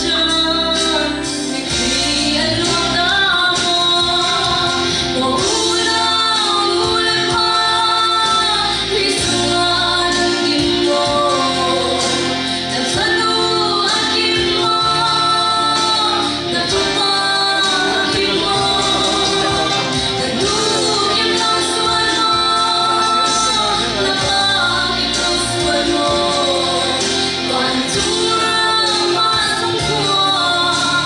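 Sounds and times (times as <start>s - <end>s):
instrumental accompaniment with bass: 0.0s - 31.0s
woman singing a slow song: 0.0s - 31.0s.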